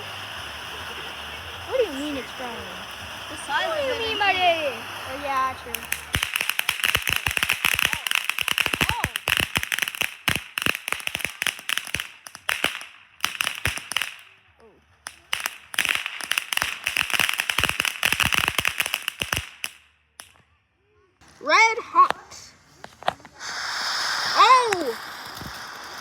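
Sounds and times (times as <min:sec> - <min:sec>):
firework crackling: 0:00.0 - 0:20.4, 0:21.2 - 0:26.0.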